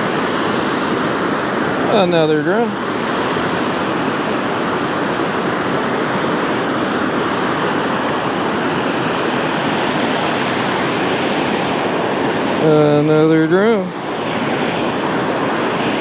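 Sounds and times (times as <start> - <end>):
water rushing through spillway: 0.0 - 16.0.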